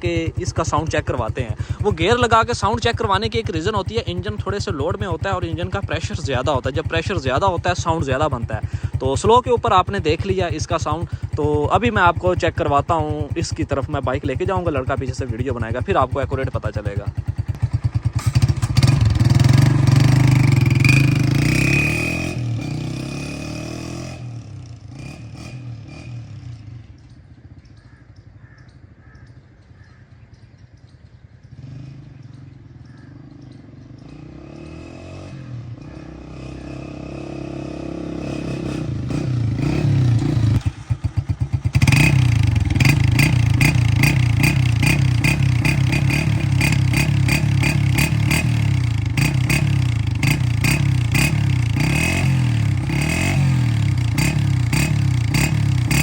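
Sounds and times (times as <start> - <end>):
motorcycle engine pulling away: 0.0 - 56.0.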